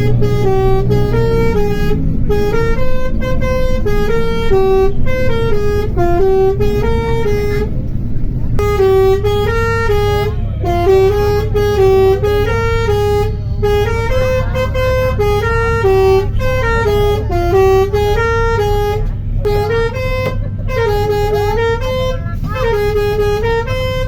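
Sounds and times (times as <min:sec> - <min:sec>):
engine low rumble: 0:00.0 - 0:24.0
multi-tone bus horn tune: 0:00.0 - 0:24.0.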